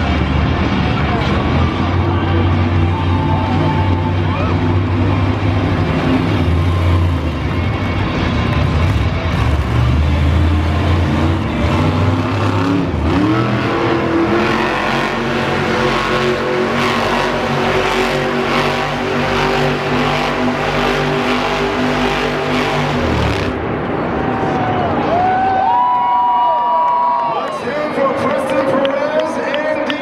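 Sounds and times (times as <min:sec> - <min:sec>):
truck engine revving: 0:00.0 - 0:24.2.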